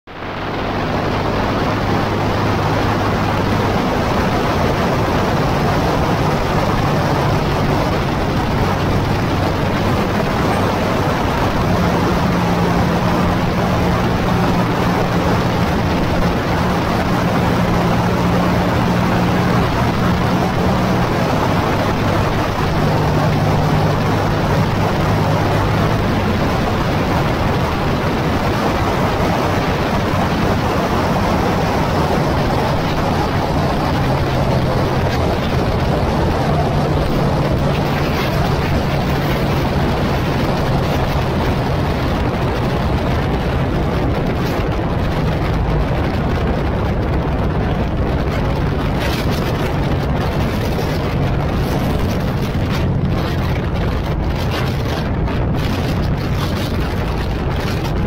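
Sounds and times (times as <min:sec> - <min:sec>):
motorcycle engine hum: 0:00.0 - 0:58.0
wind noise on camera: 0:00.1 - 0:58.0.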